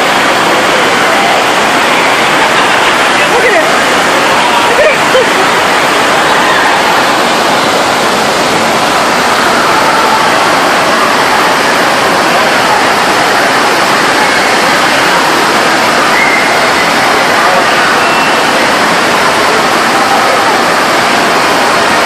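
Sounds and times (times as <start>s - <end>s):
rushing water roar: 0.0s - 22.0s.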